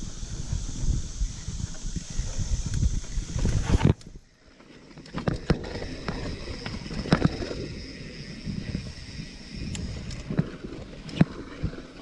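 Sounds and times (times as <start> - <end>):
wind on microphone: 0.0 - 4.3, 5.2 - 12.0
bike knocking and rattling: 0.0 - 12.0
tyres rumbling on dirt trail: 0.0 - 12.0.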